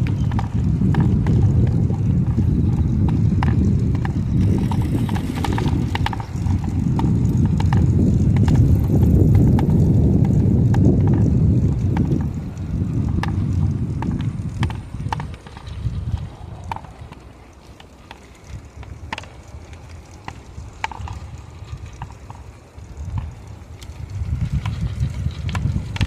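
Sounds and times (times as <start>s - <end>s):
sharp clicks and taps: 0.0s - 22.4s
wind buffeting microphone: 0.0s - 26.0s.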